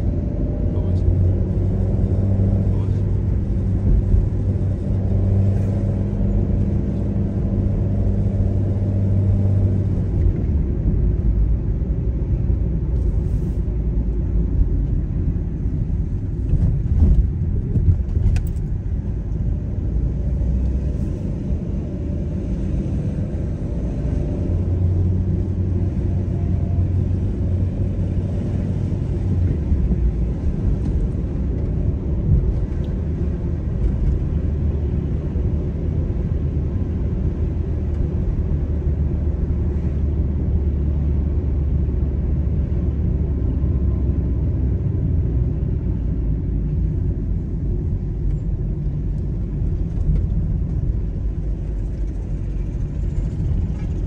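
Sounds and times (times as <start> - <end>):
car engine hum: 0.0 - 54.0
road rumble: 0.0 - 54.0.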